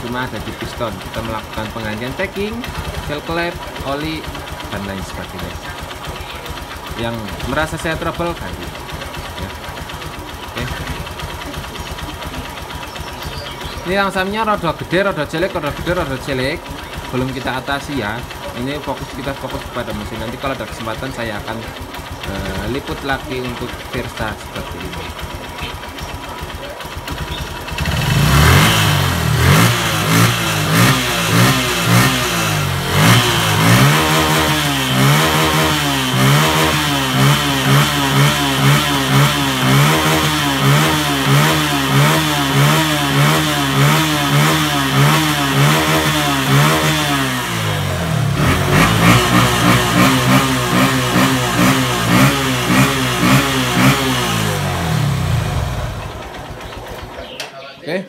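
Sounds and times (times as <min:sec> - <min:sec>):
motorcycle engine idling roughly: 0:00.0 - 0:57.4.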